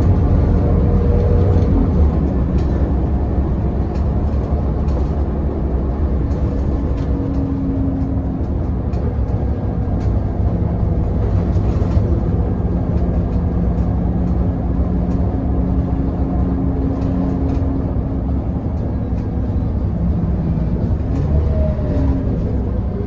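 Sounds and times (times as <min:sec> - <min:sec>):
bus diesel engine rumbling: 0:00.0 - 0:23.0.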